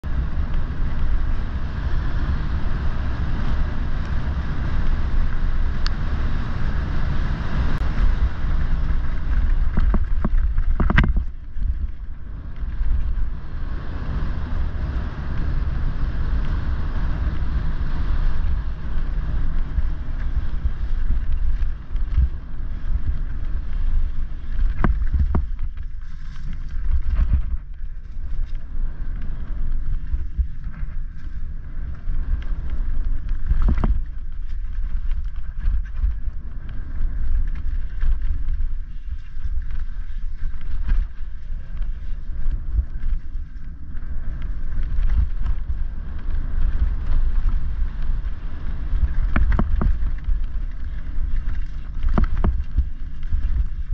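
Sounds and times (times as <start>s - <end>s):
bike tyres rolling on dirt trail: 0.0s - 53.9s
wind buffeting microphone: 0.0s - 53.9s.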